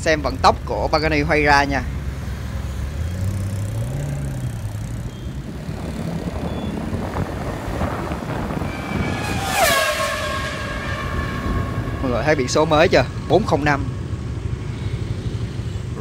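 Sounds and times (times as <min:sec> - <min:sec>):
traffic and road noise: 0:00.0 - 0:16.0
sports car accelerating: 0:00.9 - 0:16.0.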